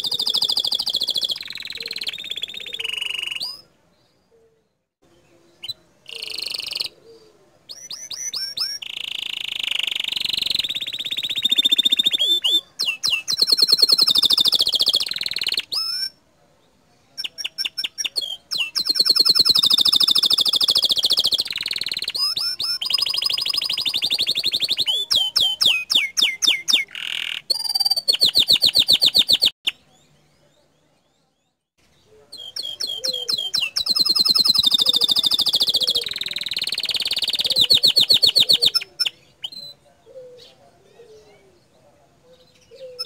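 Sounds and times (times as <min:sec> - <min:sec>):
canary singing in fast trills: 0:00.0 - 0:04.4, 0:05.1 - 0:16.2, 0:17.2 - 0:43.0.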